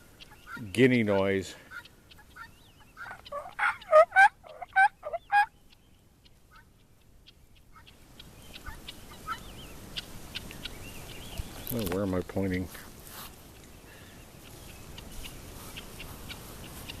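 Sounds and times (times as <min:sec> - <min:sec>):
guinea fowl calling: 0:00.0 - 0:11.7, 0:13.1 - 0:17.0
faint bird calls: 0:00.0 - 0:11.9, 0:13.5 - 0:17.0.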